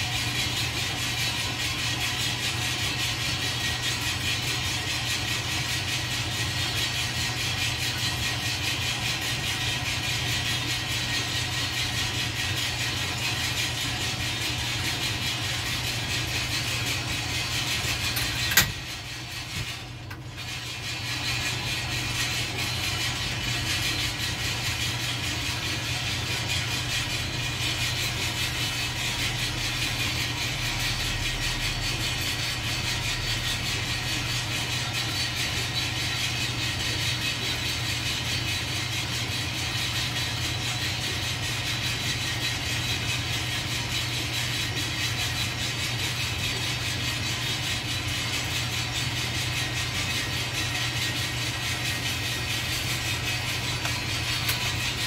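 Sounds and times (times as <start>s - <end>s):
steady low hum: 0.0s - 42.4s, 43.0s - 55.0s
coffee beans rattling in drum roaster: 0.0s - 55.0s.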